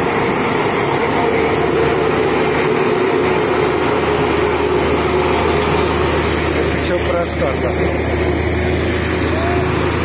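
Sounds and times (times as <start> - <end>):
road roller diesel engine: 0.0 - 10.0.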